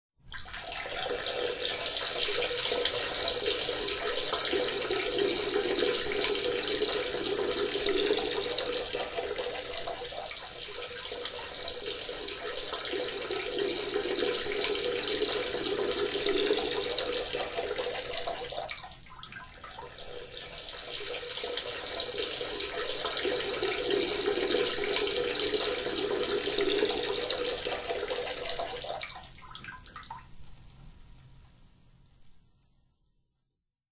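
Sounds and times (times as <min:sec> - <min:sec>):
person urinating into water: 0:00.3 - 0:30.2.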